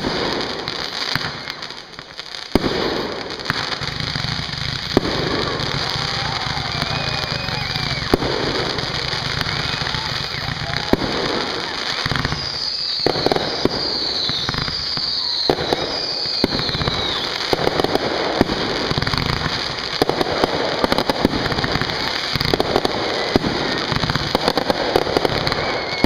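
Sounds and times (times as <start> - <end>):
falling firework whistles: 0.0 - 26.0
fireworks bangs and crackling: 0.0 - 26.0.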